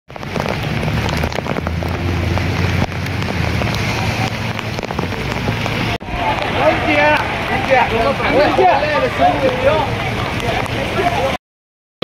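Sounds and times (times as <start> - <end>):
heavy rain pouring: 0.1 - 11.4.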